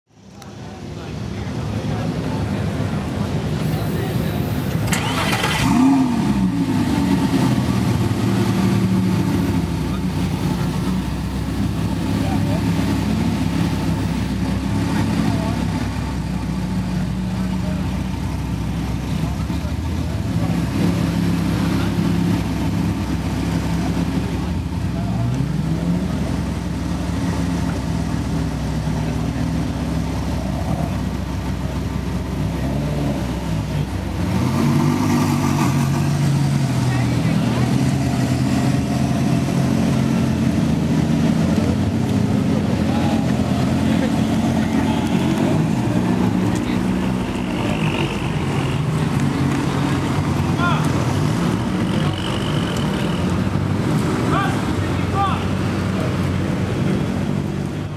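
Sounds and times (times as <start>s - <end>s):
car engine idling: 0.3s - 32.6s, 35.9s - 57.9s.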